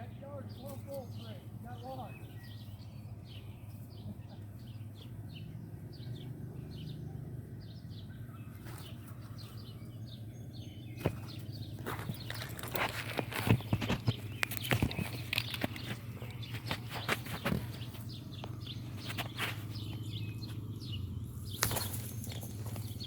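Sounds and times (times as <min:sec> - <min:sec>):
bird chirping: 0:00.0 - 0:23.0
steady low hum: 0:00.0 - 0:23.0.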